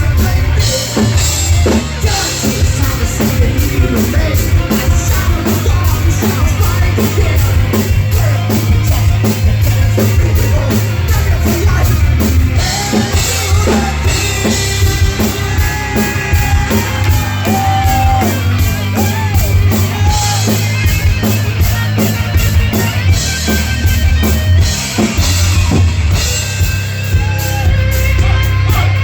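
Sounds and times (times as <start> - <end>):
live heavy metal band playing: 0.0 - 29.0.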